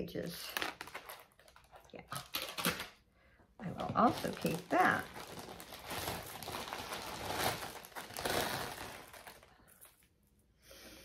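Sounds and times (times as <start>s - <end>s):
packaging crinkling and rustling: 0.4s - 3.0s, 3.6s - 10.1s.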